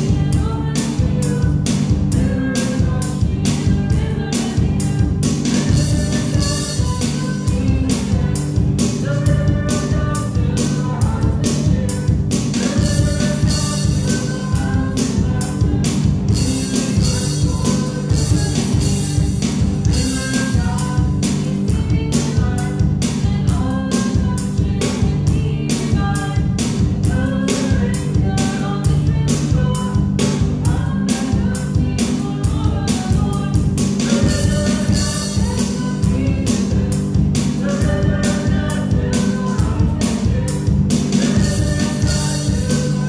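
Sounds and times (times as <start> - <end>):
band playing upbeat song: 0.0 - 43.0
drum kit beat: 0.0 - 43.0
people singing: 0.0 - 43.0.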